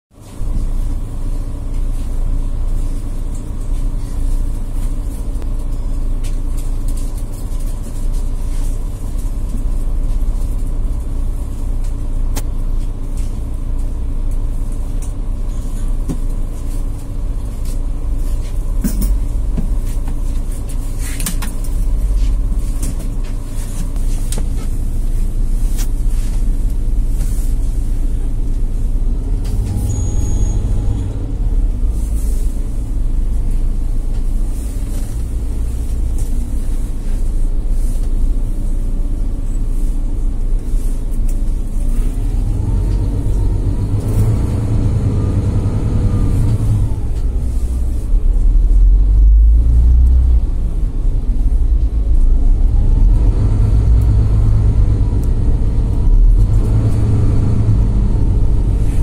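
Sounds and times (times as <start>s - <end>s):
bus engine idling: 0.1s - 59.0s.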